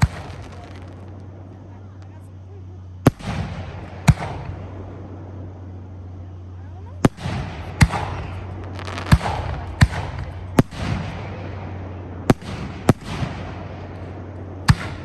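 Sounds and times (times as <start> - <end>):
fireworks bangs: 0.0 - 15.0
fireworks crackling: 0.0 - 15.0
steady low hum: 0.0 - 15.0.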